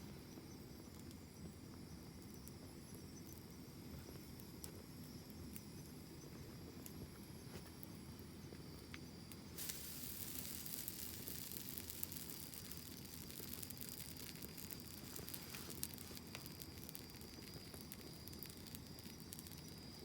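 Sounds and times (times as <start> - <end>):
campfire flames rumbling: 0.0 - 20.0
fire crackles and pops: 0.0 - 20.0
steady hiss: 0.0 - 20.0.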